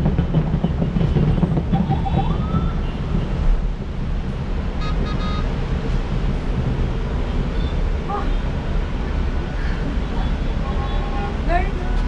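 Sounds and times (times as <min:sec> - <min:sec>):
low rumble of city traffic: 0:00.0 - 0:12.0.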